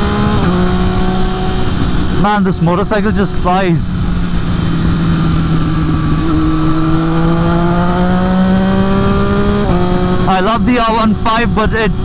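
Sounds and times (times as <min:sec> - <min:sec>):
motorcycle engine at speed: 0:00.0 - 0:12.0
wind and road noise: 0:00.0 - 0:12.0.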